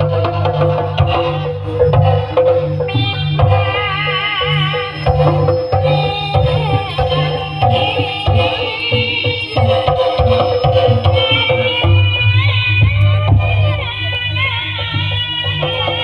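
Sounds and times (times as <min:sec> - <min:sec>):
ringing metallophone notes: 0:00.0 - 0:16.0
wavering high melody: 0:00.0 - 0:16.0.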